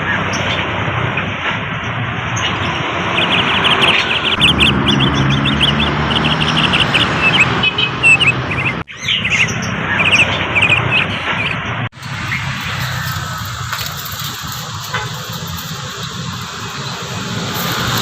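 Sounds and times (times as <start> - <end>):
steady background noise: 0.0 - 18.0
bird chattering: 2.6 - 18.0.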